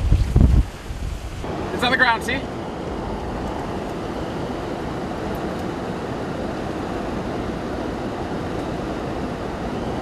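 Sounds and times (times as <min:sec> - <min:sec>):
road and engine noise inside car: 0:00.0 - 0:10.0.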